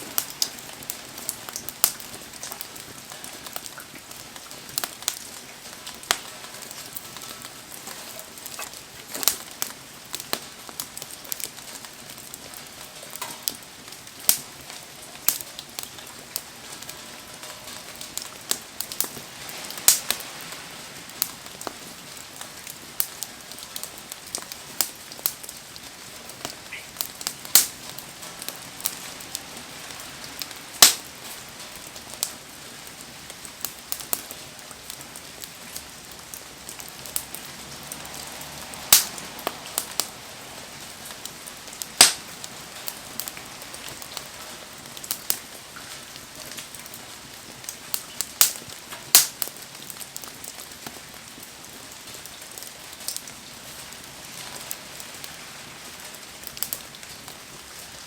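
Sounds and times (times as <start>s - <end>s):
campfire crackling and popping: 0.0s - 58.0s
rain falling: 0.0s - 58.0s.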